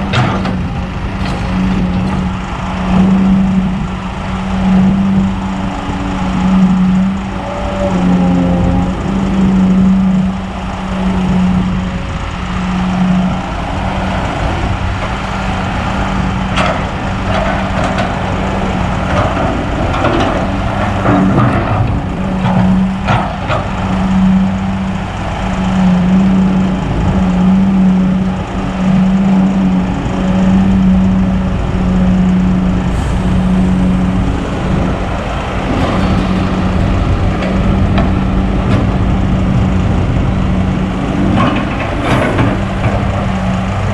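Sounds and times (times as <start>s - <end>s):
excavator diesel engine under load: 0.0s - 43.9s.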